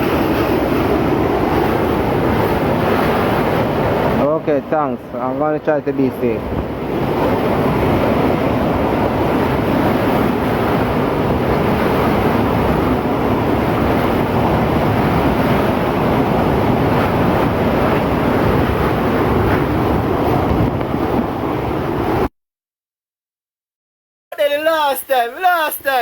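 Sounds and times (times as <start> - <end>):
strong wind buffeting microphone: 0.0 - 22.3.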